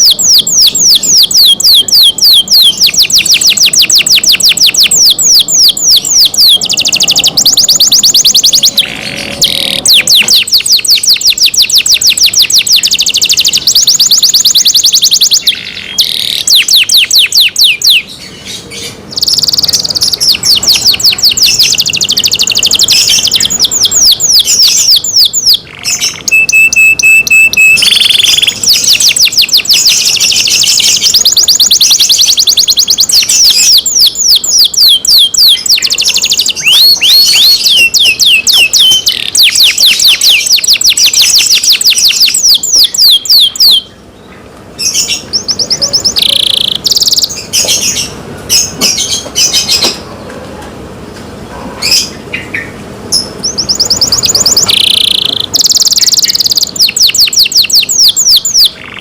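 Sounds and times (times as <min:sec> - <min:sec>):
canary singing trills: 0:00.0 - 0:50.1, 0:51.8 - 0:59.0.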